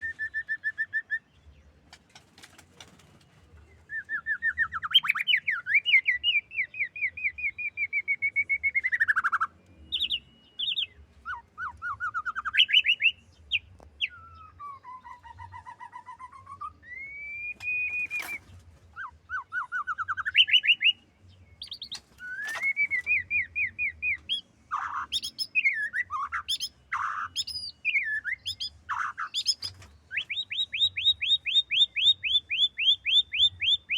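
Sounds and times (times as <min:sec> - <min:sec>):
songbird calling and trilling: 0:03.7 - 0:33.9.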